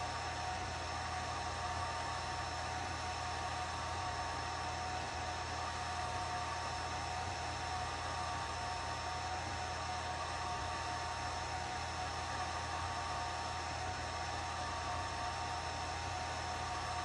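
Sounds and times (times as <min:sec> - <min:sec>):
fan whir: 0:00.0 - 0:17.0.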